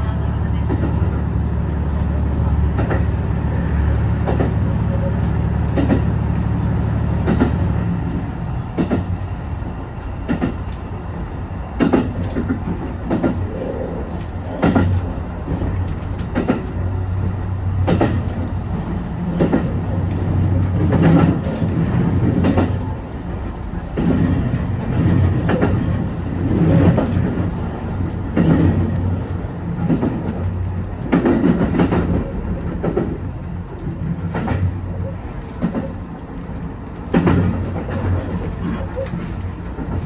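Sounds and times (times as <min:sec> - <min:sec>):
low train drive hum: 0:00.0 - 0:40.0
train wheels clicking over rail joints: 0:01.6 - 0:11.2, 0:11.8 - 0:40.0.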